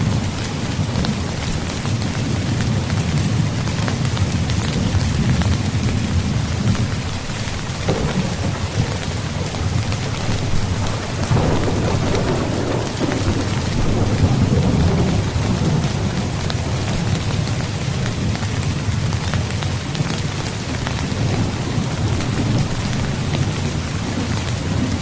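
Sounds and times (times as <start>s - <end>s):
rain on a tent: 0.0s - 25.0s
thunder rumble: 0.0s - 25.0s.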